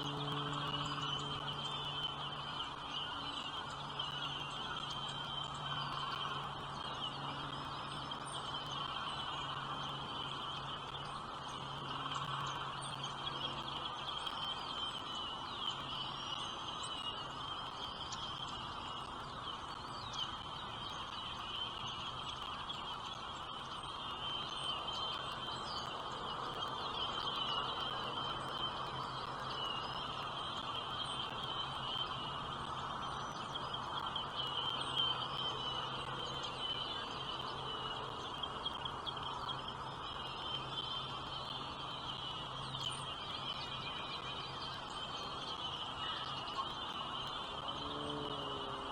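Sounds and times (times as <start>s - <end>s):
high chorus of birds: 0.0s - 48.9s.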